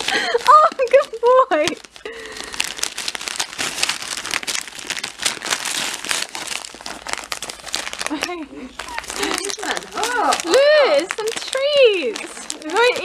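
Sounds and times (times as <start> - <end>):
wrapping paper crinkling and tearing: 0.0 - 13.0.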